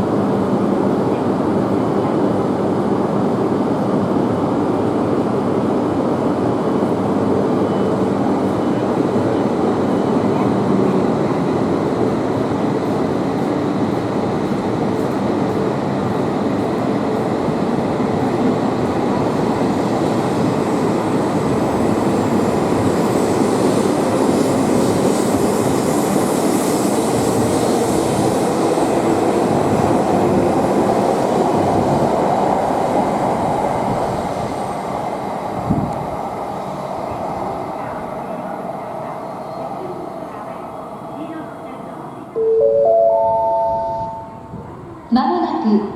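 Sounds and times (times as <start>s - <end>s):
train wheels rushing on rails: 0.0s - 42.3s.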